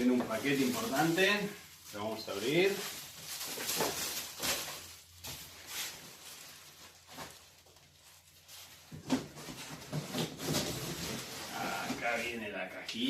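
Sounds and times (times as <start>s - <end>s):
packaging rustling and crinkling: 0.0s - 12.4s.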